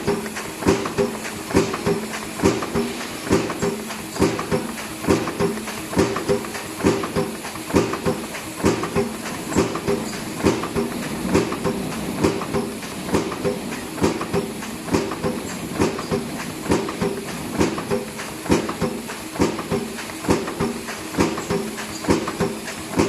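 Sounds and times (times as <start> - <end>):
machine clacking knocks: 0.0 - 23.0
steady machine noise: 0.0 - 23.0.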